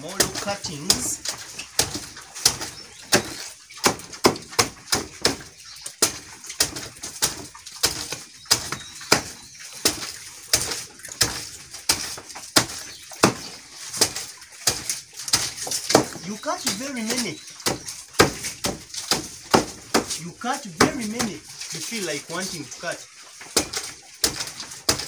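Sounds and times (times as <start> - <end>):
knife chopping on wood: 0.2 - 5.4, 6.0 - 20.2, 20.8 - 21.4, 23.5 - 25.0.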